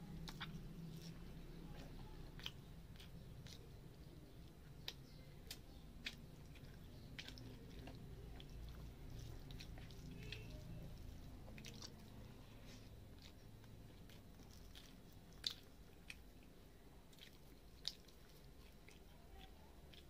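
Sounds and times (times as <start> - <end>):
wet chewing and mouth clicks: 0.0 - 20.0.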